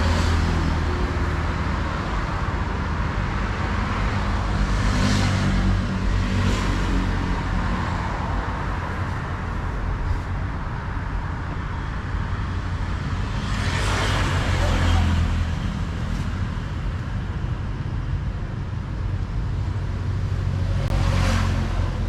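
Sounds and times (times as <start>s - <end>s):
vehicles rushing past: 0.0s - 22.0s.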